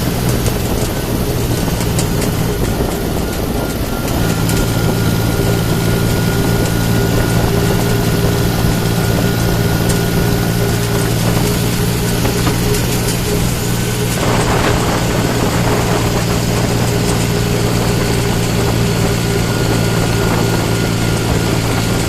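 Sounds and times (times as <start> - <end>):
thin steady whine: 0.0 - 22.0
tractor diesel engine running: 0.0 - 22.0.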